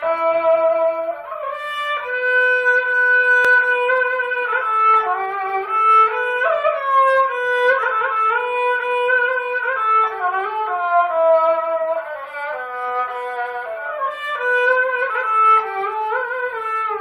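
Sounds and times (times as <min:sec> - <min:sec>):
bowed fiddle melody: 0:00.0 - 0:17.0.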